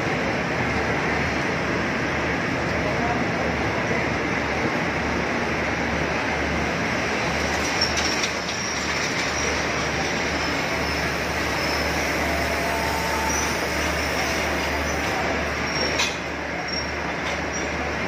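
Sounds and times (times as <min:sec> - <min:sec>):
train rail rumble: 0:00.0 - 0:18.0.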